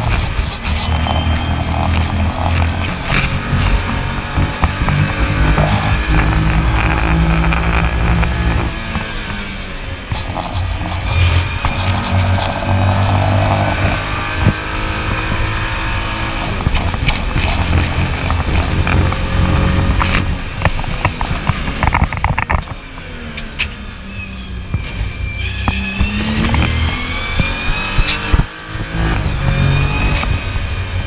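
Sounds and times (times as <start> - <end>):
car engine running hard: 0.0 - 31.0.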